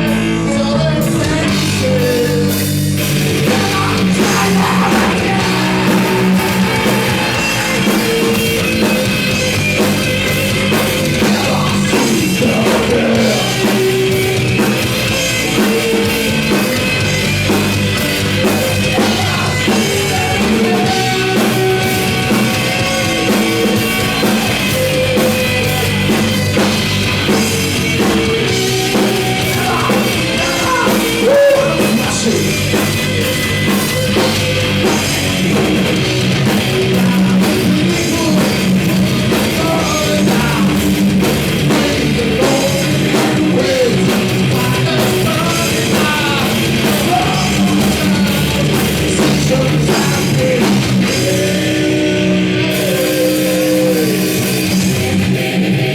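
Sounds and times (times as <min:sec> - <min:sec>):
person singing: 0:00.0 - 0:02.7, 0:03.4 - 0:09.1, 0:11.1 - 0:16.8, 0:18.7 - 0:26.6, 0:27.3 - 0:32.7, 0:36.8 - 0:41.0, 0:41.6 - 0:54.8
heavy rock band playing: 0:00.0 - 0:55.9.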